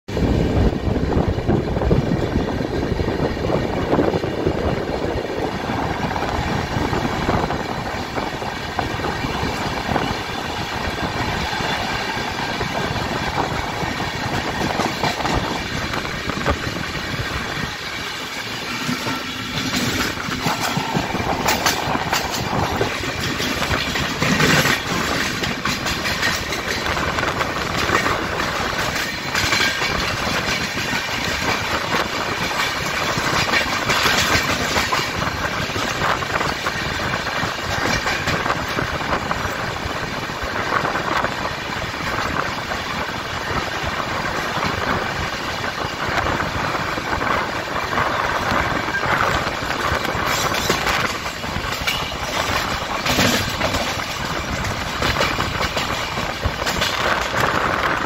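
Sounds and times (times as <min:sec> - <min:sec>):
train wheels clattering over rail joints: 0:00.2 - 0:58.0.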